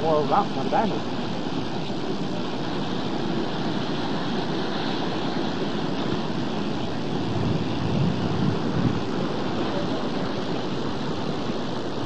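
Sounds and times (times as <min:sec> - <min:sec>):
sea waves rushing: 0:00.0 - 0:12.0
wind: 0:00.0 - 0:12.0.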